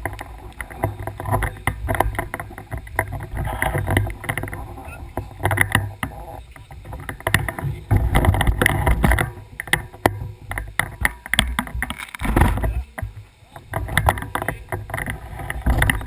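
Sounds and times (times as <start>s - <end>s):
bike frame rattling: 0.0s - 16.0s
wind buffeting microphone: 0.0s - 16.0s.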